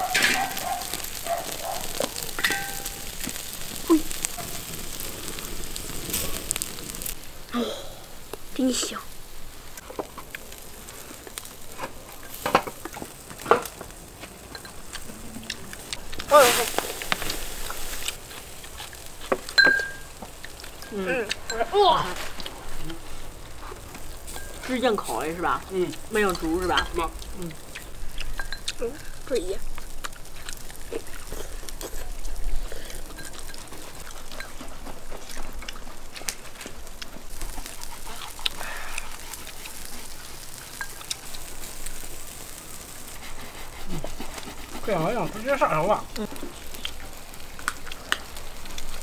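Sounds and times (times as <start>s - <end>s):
meat sizzling on a grill: 0.0s - 49.0s.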